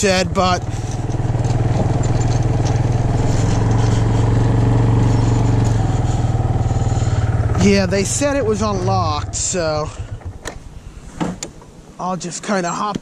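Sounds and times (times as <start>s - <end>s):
atv engine running: 0.0s - 11.8s.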